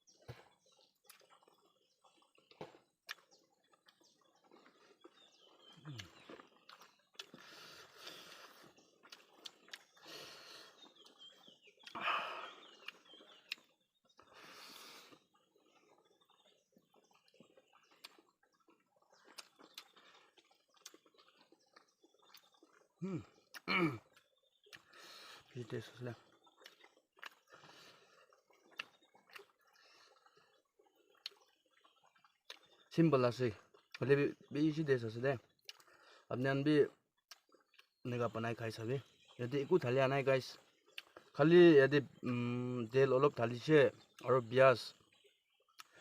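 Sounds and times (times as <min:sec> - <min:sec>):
chewing smacks: 0:00.1 - 0:34.5, 0:35.4 - 0:36.3, 0:36.9 - 0:38.1, 0:40.6 - 0:41.4, 0:44.9 - 0:46.0.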